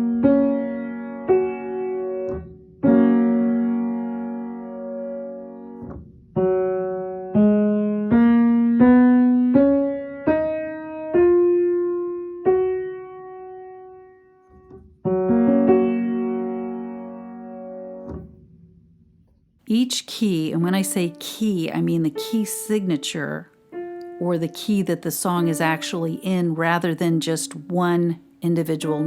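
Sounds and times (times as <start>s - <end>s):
piano chord ringing: 0.0s - 28.2s
slow piano notes: 0.0s - 29.0s.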